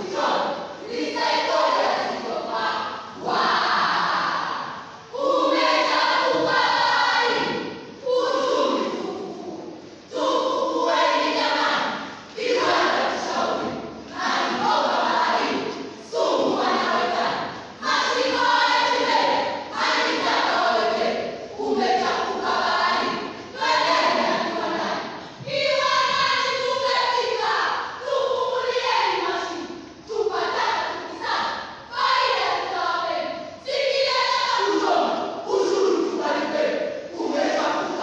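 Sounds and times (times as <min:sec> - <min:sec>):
many voices chanting in unison: 0:00.0 - 0:38.0.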